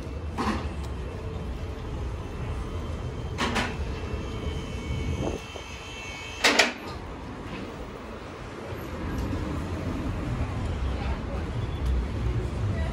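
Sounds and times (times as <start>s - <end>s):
street traffic rumble: 0.0s - 12.9s.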